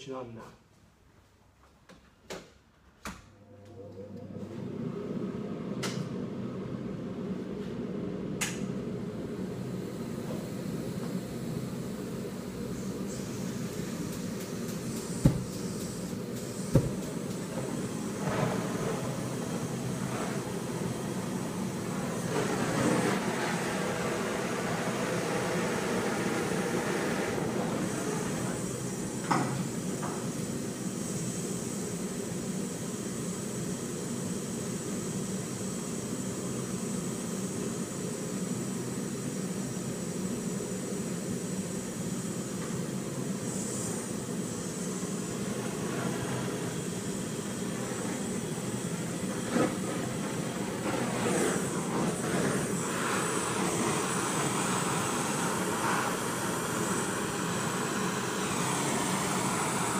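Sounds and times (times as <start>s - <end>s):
fume extraction system rushing: 3.4s - 59.9s
gas torch burning: 8.4s - 59.9s.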